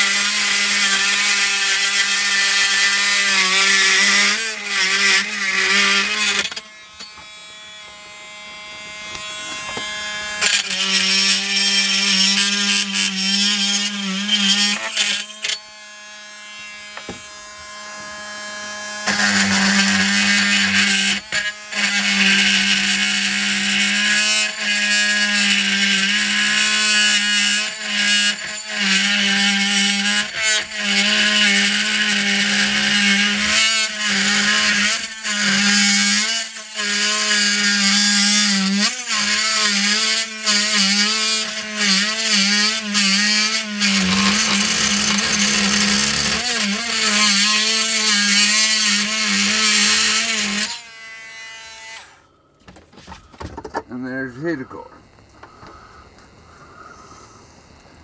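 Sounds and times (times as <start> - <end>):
oscillating multi-tool cutting: 0.0 - 52.3.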